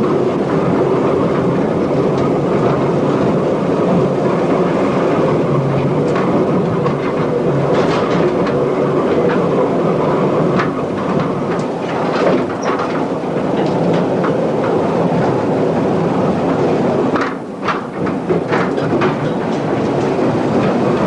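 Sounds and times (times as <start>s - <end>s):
wheels clicking and rattling: 0.0s - 15.4s, 16.4s - 21.0s
train rumbling on track: 0.0s - 21.0s.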